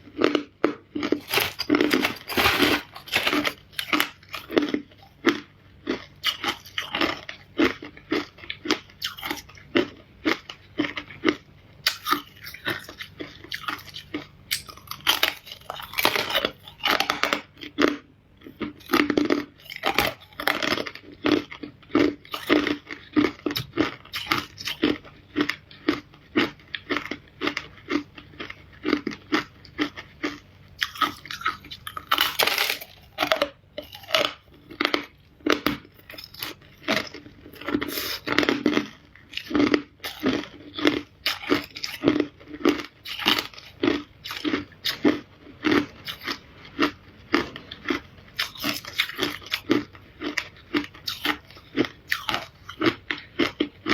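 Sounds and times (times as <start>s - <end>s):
person crunching ice: 0.2s - 17.9s, 18.8s - 28.0s, 28.8s - 53.9s.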